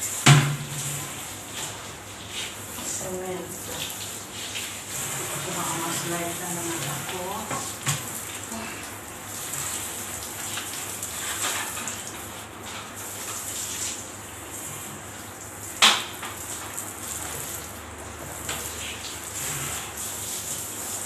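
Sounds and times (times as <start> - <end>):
water spraying and splashing: 0.0 - 21.0.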